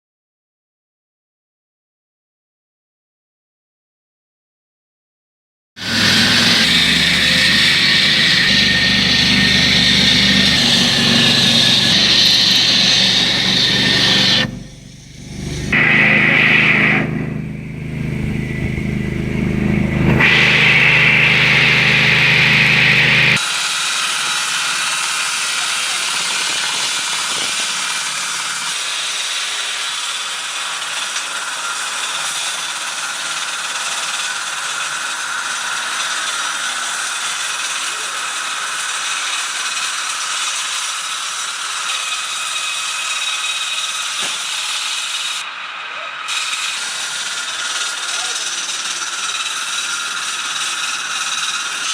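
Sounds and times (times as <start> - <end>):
blade whining into concrete: 5.8 - 51.9
concrete cutter engine running: 5.8 - 51.9.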